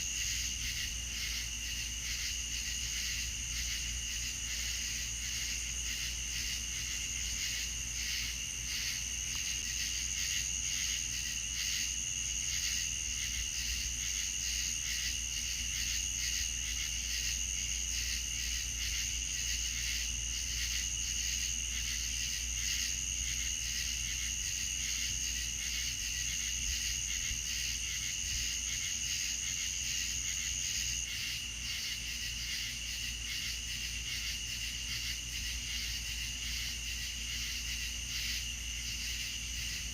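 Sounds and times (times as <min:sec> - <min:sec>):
crickets chirping: 0:00.0 - 0:39.9
high-pitched insect trill: 0:00.0 - 0:39.9.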